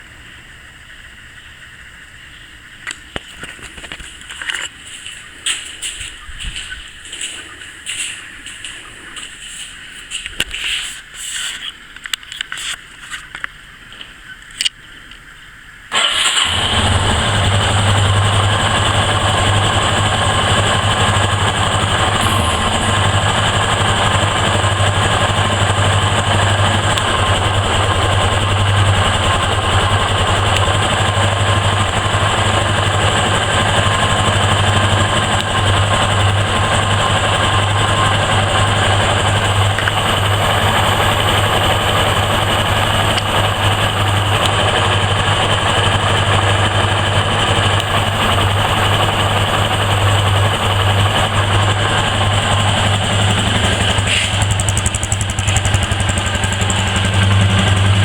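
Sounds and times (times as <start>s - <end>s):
motorcycle engine running: 2.9s - 10.3s, 16.0s - 58.0s.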